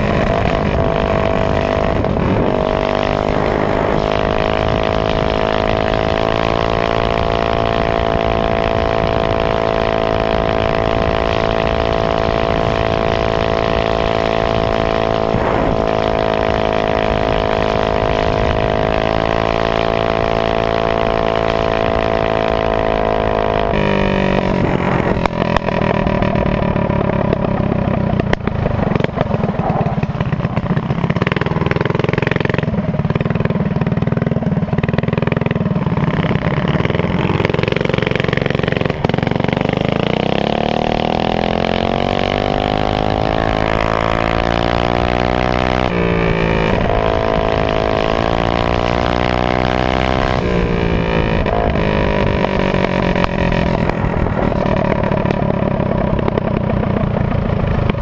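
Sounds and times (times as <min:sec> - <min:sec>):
minibike engine at high revs: 0:00.0 - 0:58.0.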